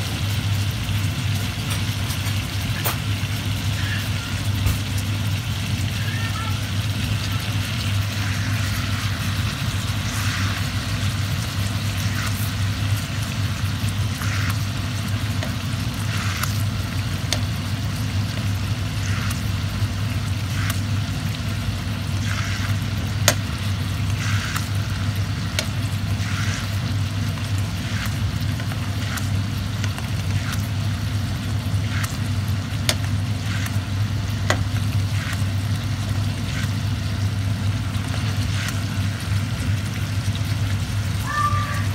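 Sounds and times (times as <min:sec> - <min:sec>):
steaks sizzling in a skillet: 0:00.0 - 0:41.8.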